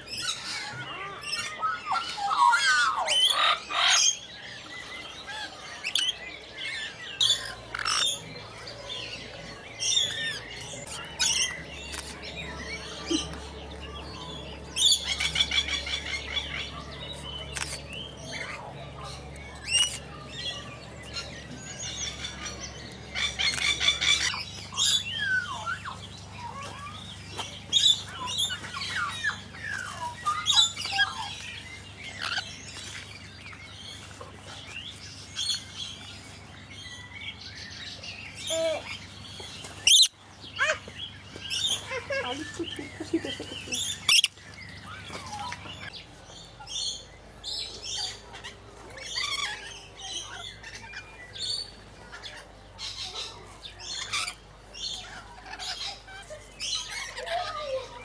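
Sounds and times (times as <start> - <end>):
buzzy bird chatter: 0.0 - 58.0
lorikeets chirping and screeching: 0.0 - 58.0.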